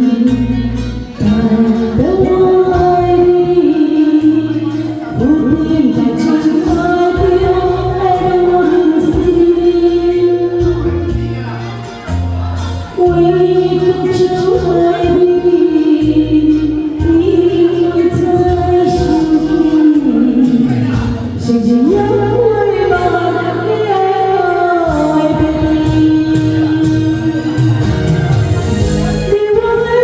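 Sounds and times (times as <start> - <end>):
person singing karaoke: 0.0 - 30.0
recorded backing track: 0.0 - 30.0.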